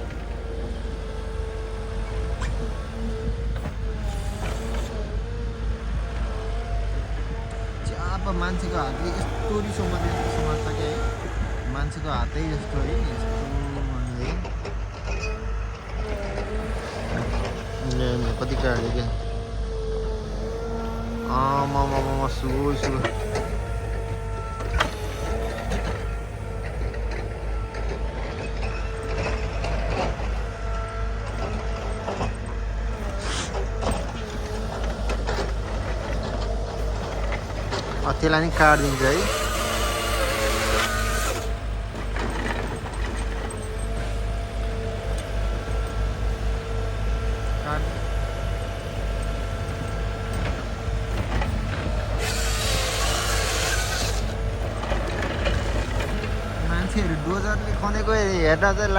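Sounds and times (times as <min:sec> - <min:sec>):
heavy machine engine rumble: 0:00.0 - 0:58.9.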